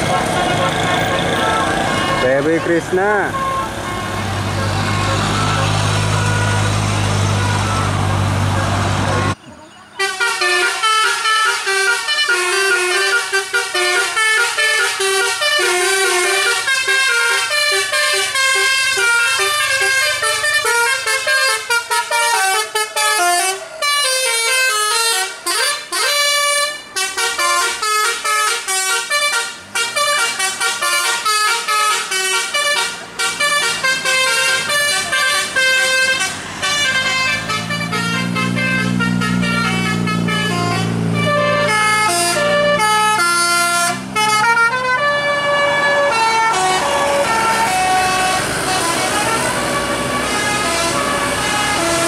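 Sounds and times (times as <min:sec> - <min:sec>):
bus musical air horn: 0:00.0 - 0:52.0.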